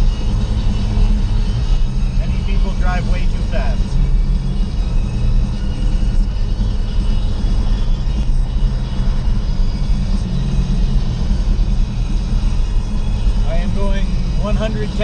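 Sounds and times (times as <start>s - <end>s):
road rumble inside car: 0.0s - 15.0s.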